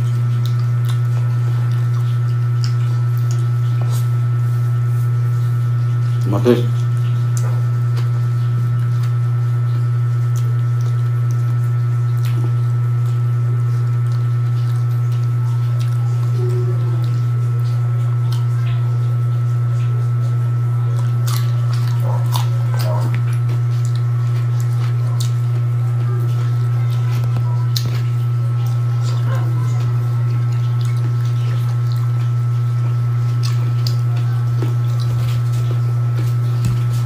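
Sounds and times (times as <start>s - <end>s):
man chewing food: 0.0s - 37.0s.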